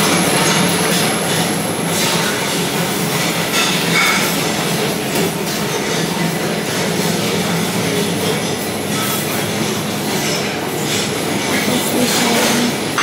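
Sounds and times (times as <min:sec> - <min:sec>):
dishes and cutlery clinking: 0:00.0 - 0:13.0
kitchen ventilation roar: 0:00.0 - 0:13.0.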